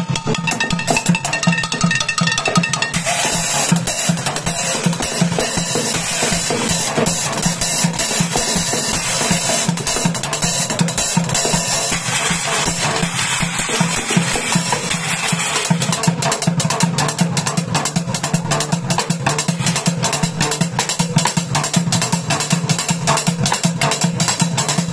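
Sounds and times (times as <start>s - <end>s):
drumming on buckets and pots: 0.0s - 24.9s.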